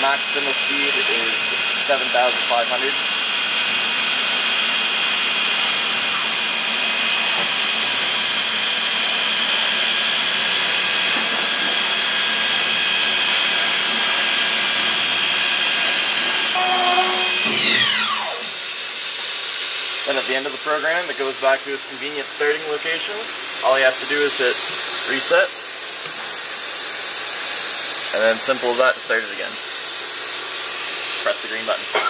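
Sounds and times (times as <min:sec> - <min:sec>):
mill spindle whine: 0:00.0 - 0:32.0.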